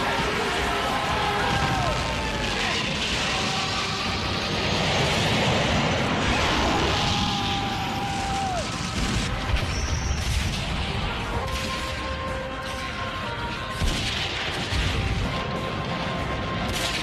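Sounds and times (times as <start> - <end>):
background music: 0.0 - 17.0
rumble of explosions: 0.0 - 17.0.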